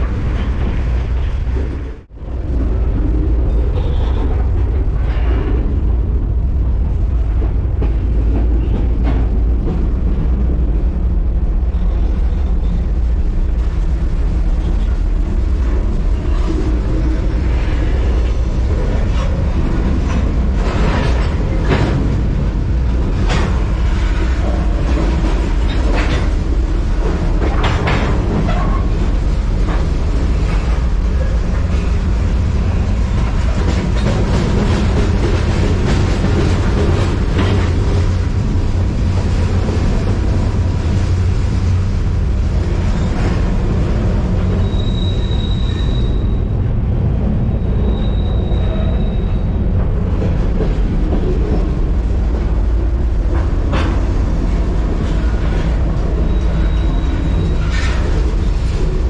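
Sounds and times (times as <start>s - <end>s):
train clanks and rattles: 0.0s - 59.0s
train wheels rumbling on rail: 0.0s - 59.0s.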